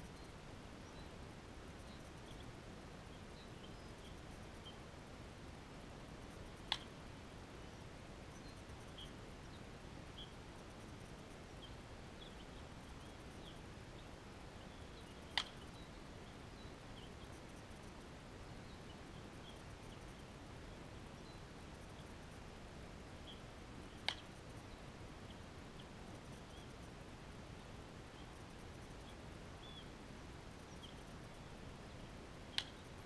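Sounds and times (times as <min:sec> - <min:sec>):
faint bird chirps: 0:00.0 - 0:04.9, 0:07.6 - 0:22.4, 0:23.1 - 0:33.0.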